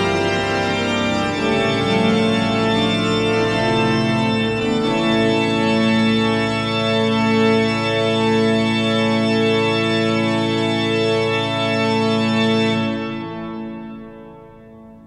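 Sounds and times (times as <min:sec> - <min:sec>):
church organ playing: 0:00.0 - 0:15.0.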